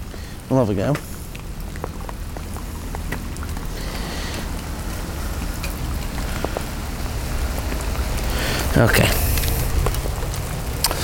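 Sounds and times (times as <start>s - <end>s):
heavy rain falling: 0.0s - 11.0s
raindrops tapping plastic bag: 0.0s - 11.0s
steady low rumble: 0.0s - 11.0s.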